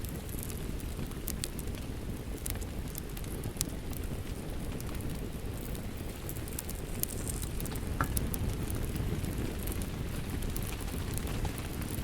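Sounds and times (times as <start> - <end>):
steady rain: 0.0 - 12.0
wood fire crackling: 0.0 - 12.0.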